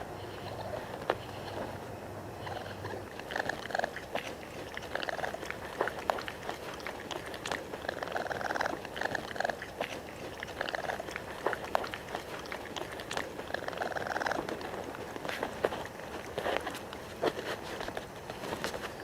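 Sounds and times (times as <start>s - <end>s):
raccoon trilling: 0.0s - 19.0s
sharp animal clicks: 2.4s - 19.0s.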